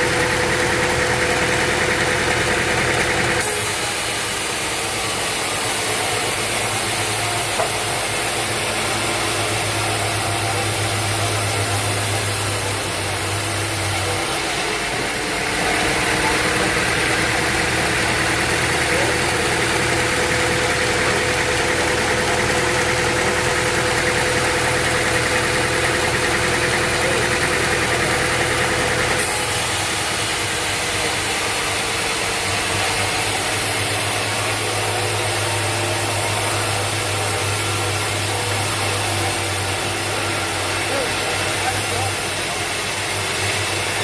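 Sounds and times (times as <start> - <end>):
sawmill machinery humming: 0.0 - 44.0.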